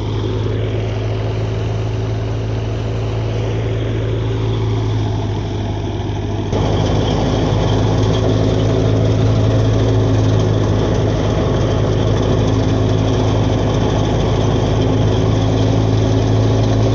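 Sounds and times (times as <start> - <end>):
thresher rattling and whirring: 0.0 - 16.9
tractor diesel engine humming: 0.0 - 16.9.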